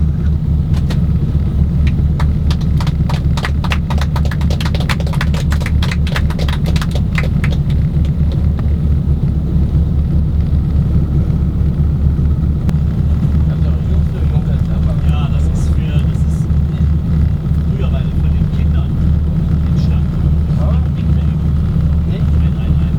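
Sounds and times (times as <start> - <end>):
aircraft engines droning: 0.0 - 22.9.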